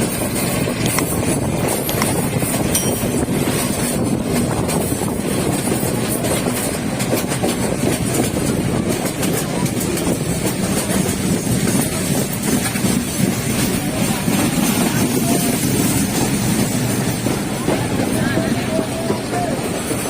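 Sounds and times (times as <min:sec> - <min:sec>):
train wheels clickety-clack: 0:00.0 - 0:20.0
train wheels rumbling: 0:00.0 - 0:20.0.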